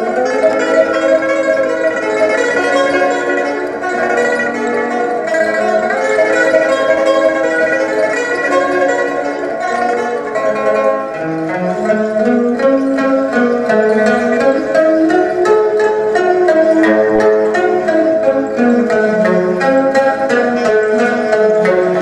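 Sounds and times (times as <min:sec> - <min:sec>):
plucked lutes playing: 0:00.0 - 0:22.0.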